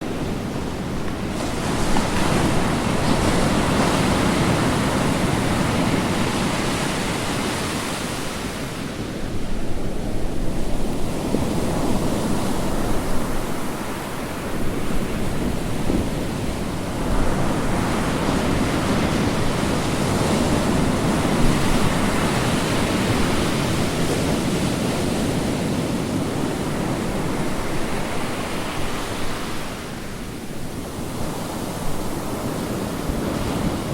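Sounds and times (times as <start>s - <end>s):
ocean waves breaking on shore: 0.0s - 33.9s.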